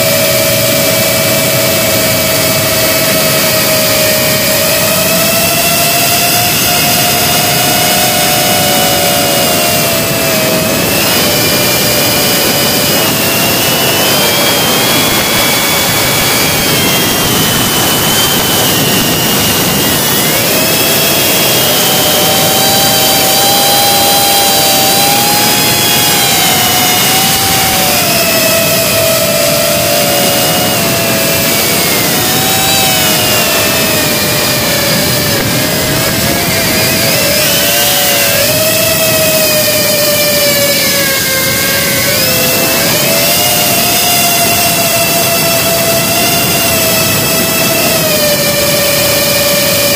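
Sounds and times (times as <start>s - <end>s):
drone motors whining: 0.0s - 49.9s.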